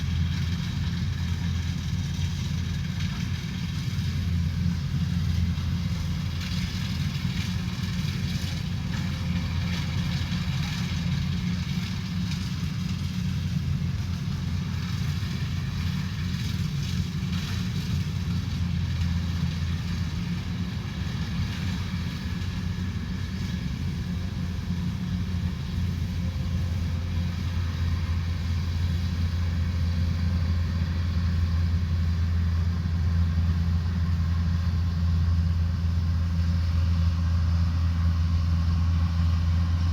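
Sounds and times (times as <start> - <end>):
diesel engine deep hum: 0.0 - 39.9.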